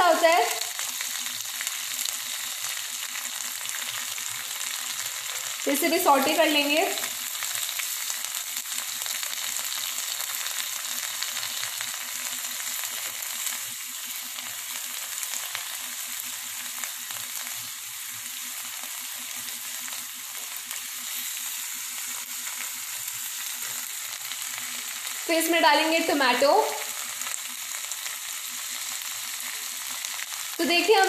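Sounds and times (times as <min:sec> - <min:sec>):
vegetables sizzling in a frying pan: 0:00.0 - 0:31.0.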